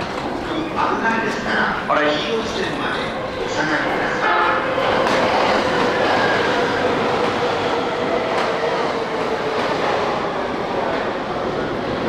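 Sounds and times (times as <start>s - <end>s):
electric train rolling past: 0.0s - 12.0s
steady train whine: 0.0s - 12.0s.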